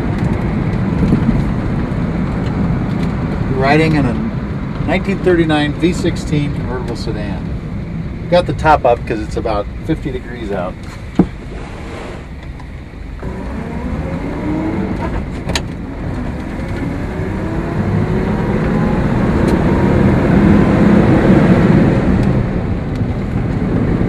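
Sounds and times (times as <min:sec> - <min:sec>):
car engine accelerating: 0:00.0 - 0:24.0
road noise: 0:00.0 - 0:24.0.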